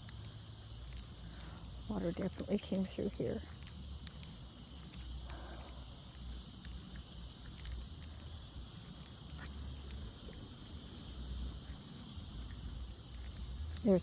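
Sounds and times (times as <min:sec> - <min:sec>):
faint ticks: 0:00.0 - 0:14.0
high-pitched insect chorus: 0:00.0 - 0:14.0.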